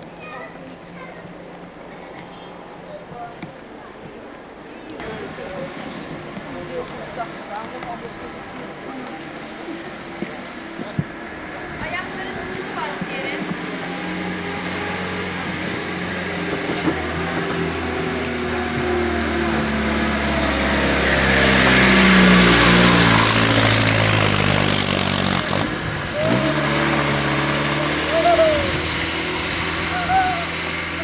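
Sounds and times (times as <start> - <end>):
engine running: 5.0 - 31.0.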